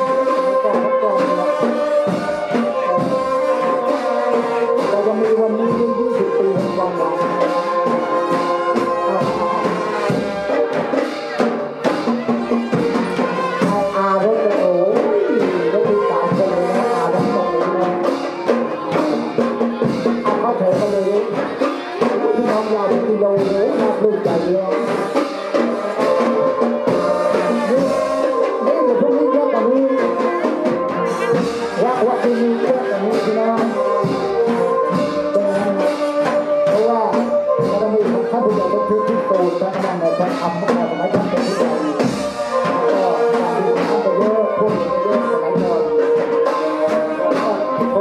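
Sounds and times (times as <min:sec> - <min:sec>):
brass band music: 0:00.0 - 0:48.0
drums keeping a steady beat: 0:00.0 - 0:48.0.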